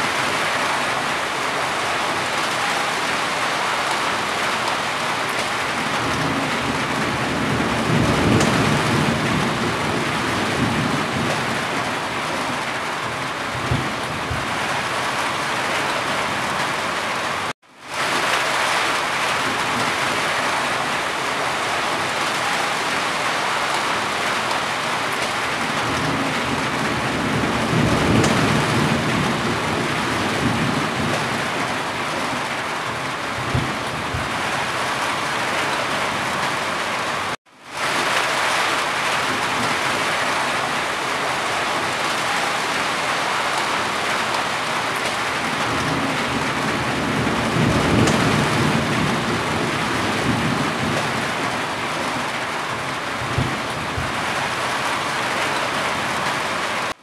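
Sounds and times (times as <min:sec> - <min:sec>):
heavy rain on a corrugated roof: 0:00.0 - 0:57.0.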